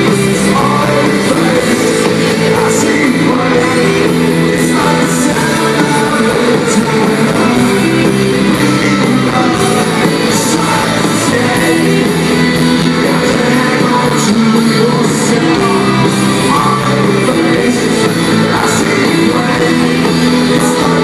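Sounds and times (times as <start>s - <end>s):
person singing: 0.0s - 21.0s
rock band playing live: 0.0s - 21.0s.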